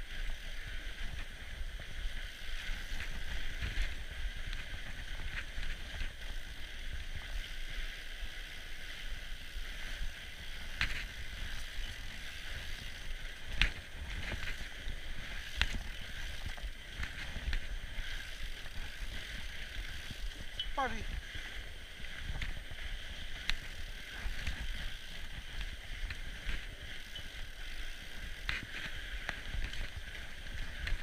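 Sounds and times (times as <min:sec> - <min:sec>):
bike knocking and rattling: 0:00.0 - 0:31.0
bike tyres on packed snow: 0:00.0 - 0:31.0.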